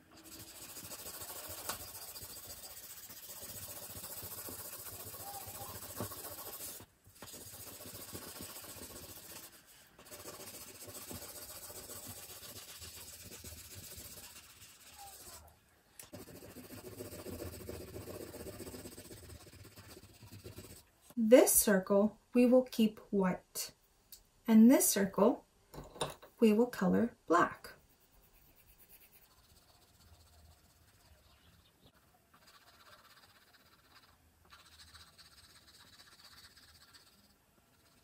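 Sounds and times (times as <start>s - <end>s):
wax crayon scribbling on paper: 0.1s - 15.5s, 16.1s - 20.8s, 27.7s - 38.0s.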